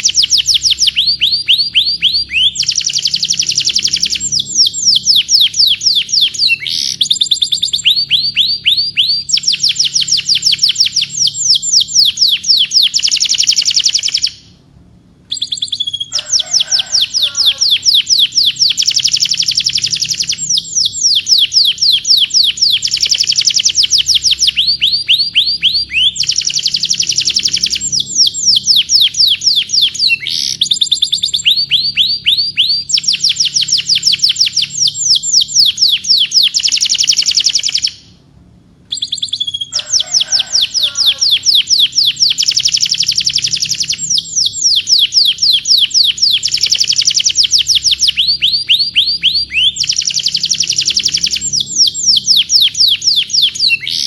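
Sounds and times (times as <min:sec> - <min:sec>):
canary singing trills: 0:00.0 - 0:38.2, 0:38.9 - 0:54.0.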